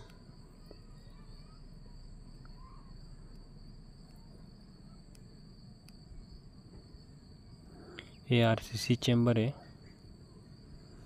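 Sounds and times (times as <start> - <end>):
crickets trilling: 0.0 - 11.0
low outdoor rumble: 0.0 - 11.0.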